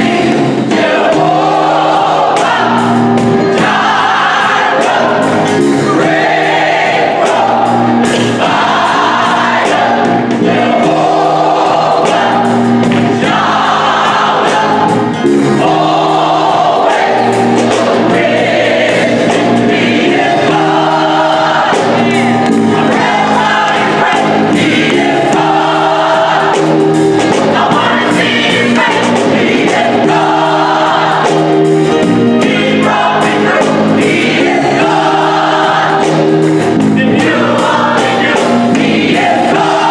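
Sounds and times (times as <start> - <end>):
drum kit: 0.0 - 39.9
gospel choir singing: 0.0 - 39.9
guitar: 0.0 - 39.9.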